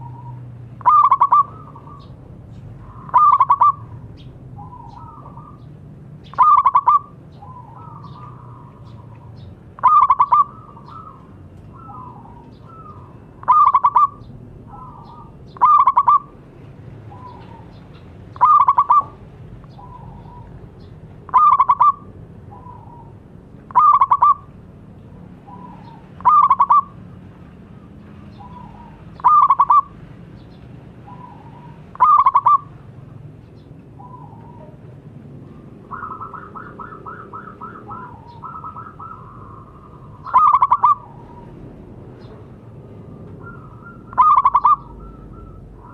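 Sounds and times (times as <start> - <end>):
dove cooing: 0.0 - 2.2, 2.8 - 16.4, 17.1 - 20.6, 21.2 - 24.5, 25.4 - 27.0, 28.3 - 30.0, 31.0 - 32.8, 34.0 - 42.4, 43.1 - 45.9.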